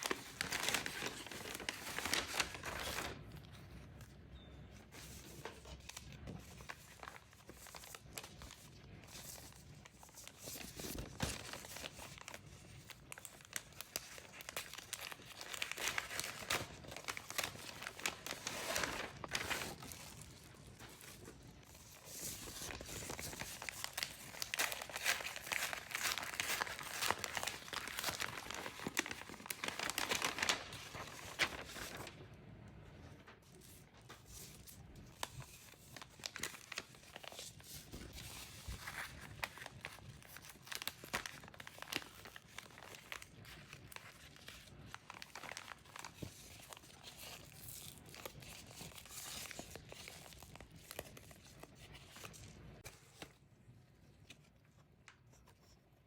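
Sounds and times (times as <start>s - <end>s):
plastic packaging crinkling: 0.0s - 3.6s, 5.0s - 32.2s, 33.5s - 53.4s.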